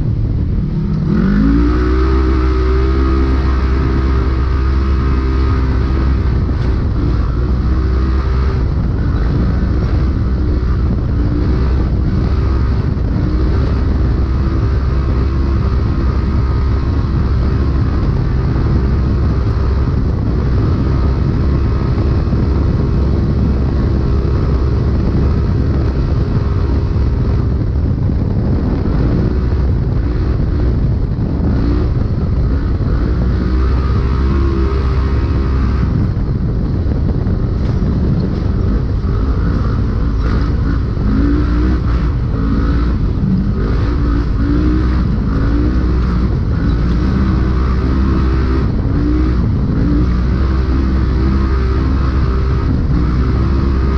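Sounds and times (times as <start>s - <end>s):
utility vehicle engine revving: 0.0s - 53.9s.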